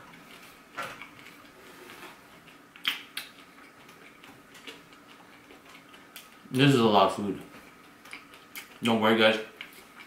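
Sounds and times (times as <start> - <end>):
person chewing food: 0.0 - 6.6, 7.4 - 8.9, 9.5 - 10.0.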